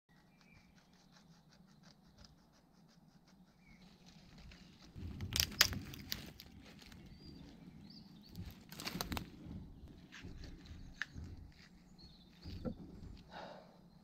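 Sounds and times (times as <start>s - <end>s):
hands scratching tree bark: 0.1s - 7.6s, 8.4s - 12.5s
bird chirping: 0.1s - 14.0s.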